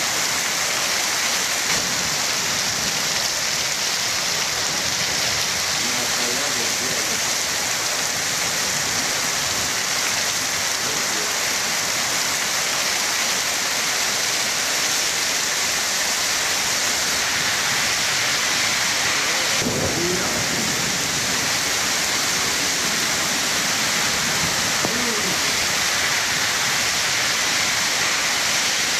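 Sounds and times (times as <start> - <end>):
heavy rain downpour: 0.0 - 28.9.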